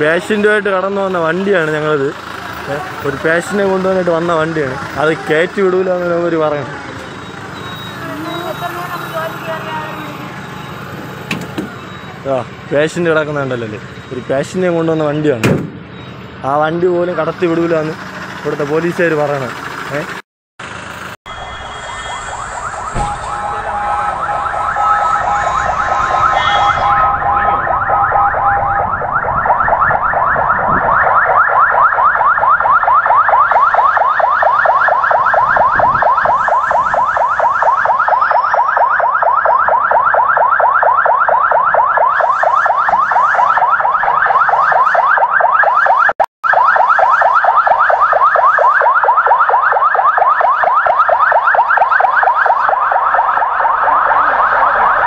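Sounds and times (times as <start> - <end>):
ambulance siren warbling: 0.0 - 20.2, 21.3 - 55.0.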